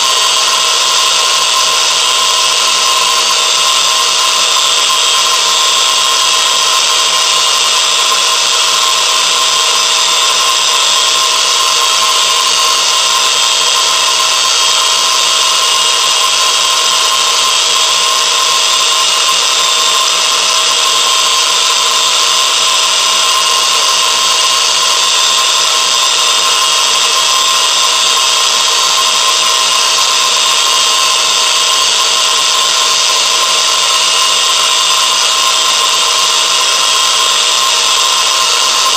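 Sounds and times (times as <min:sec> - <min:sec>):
machine motor hiss and whine: 0:00.0 - 0:38.9.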